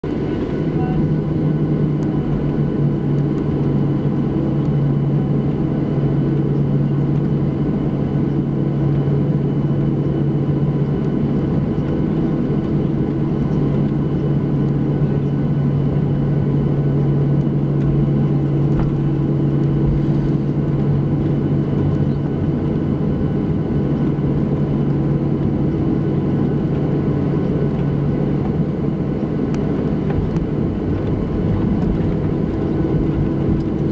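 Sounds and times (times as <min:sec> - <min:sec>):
airliner cabin drone: 0:00.0 - 0:33.9.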